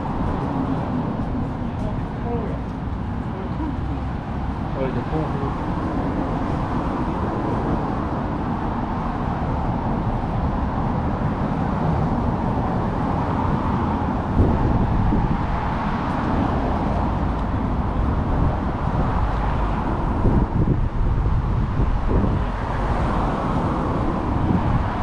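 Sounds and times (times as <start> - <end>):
city street traffic: 0.0 - 25.0.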